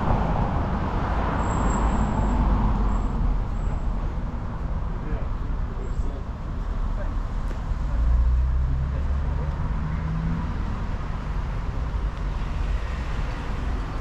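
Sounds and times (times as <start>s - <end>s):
passing vehicle engine hum: 0.0s - 14.0s
steady traffic noise: 0.0s - 14.0s.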